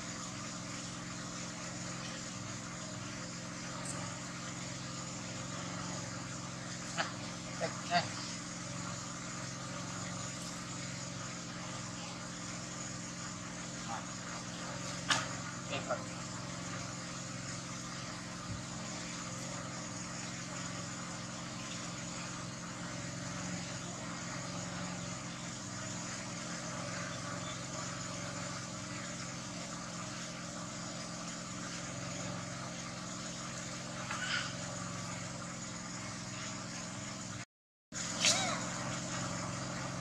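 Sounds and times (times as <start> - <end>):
steady background hum and hiss: 0.0 - 37.4, 38.0 - 40.0.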